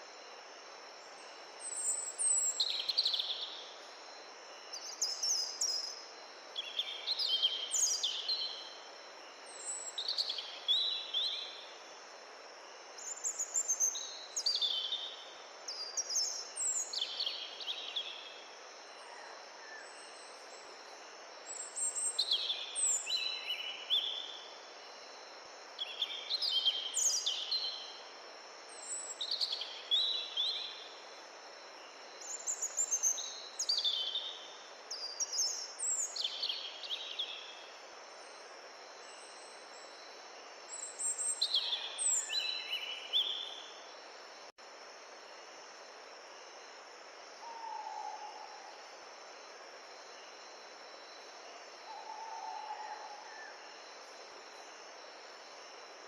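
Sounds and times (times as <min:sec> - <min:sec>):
songbird singing: 0:01.0 - 0:44.6, 0:47.4 - 0:56.0.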